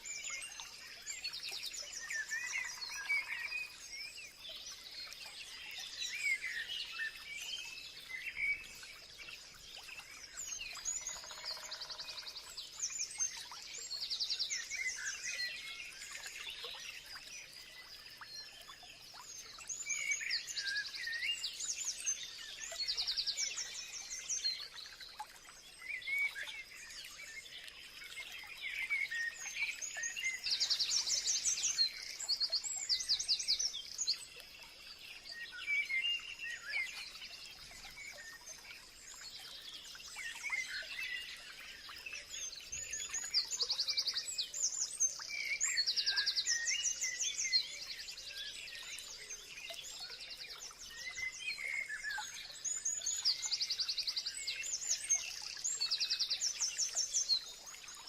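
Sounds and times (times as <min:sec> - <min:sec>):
birds singing and chirping: 0:00.1 - 0:09.0, 0:09.7 - 0:18.6, 0:25.7 - 0:58.0.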